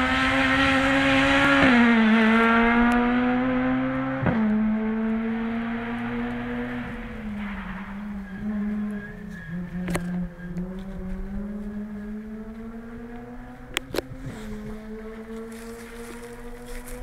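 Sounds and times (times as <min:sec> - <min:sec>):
rally car engine running: 0:00.0 - 0:17.0.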